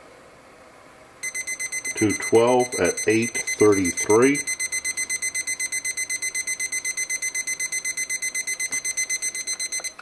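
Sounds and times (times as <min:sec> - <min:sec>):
thermometer alarm beeping fast: 0:01.2 - 0:10.0.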